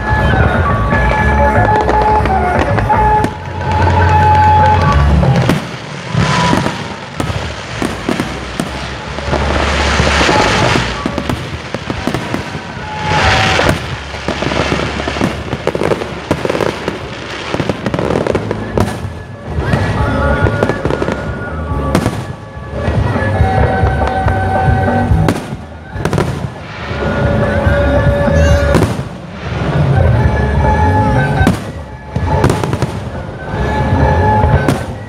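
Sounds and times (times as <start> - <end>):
fireworks bangs and crackling: 0.0 - 35.0
music: 0.0 - 35.0.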